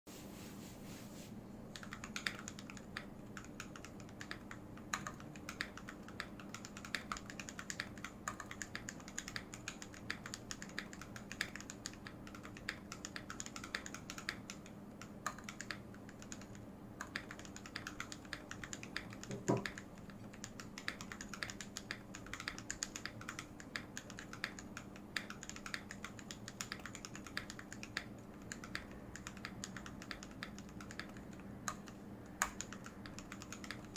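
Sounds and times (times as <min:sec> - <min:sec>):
mechanical keyboard typing: 0:01.7 - 0:33.9.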